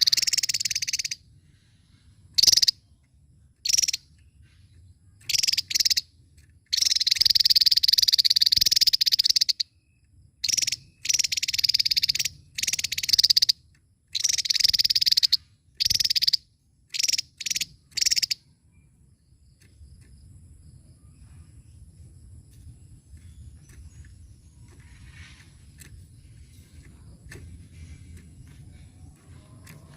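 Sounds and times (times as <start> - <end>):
bird buzzy trill: 0.0 - 29.9.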